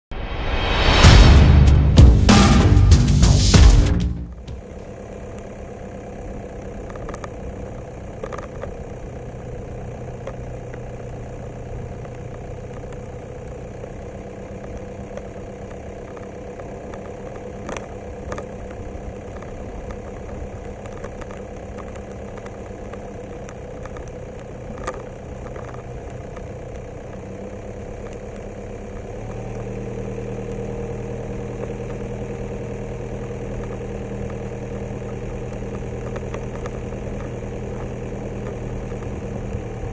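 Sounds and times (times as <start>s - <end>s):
vehicle engine running: 0.7s - 39.9s.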